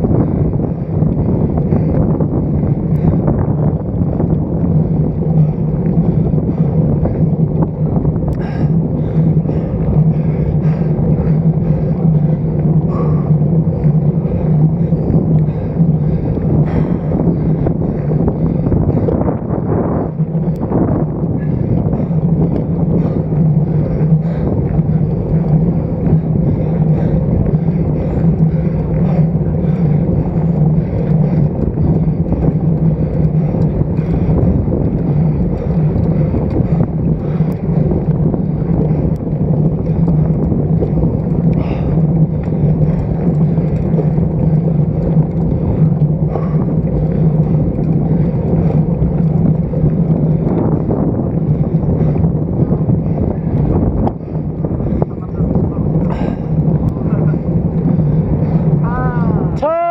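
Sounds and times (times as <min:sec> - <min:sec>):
low hum: 0:00.0 - 0:59.9
wind rushing over microphone: 0:00.0 - 0:59.9.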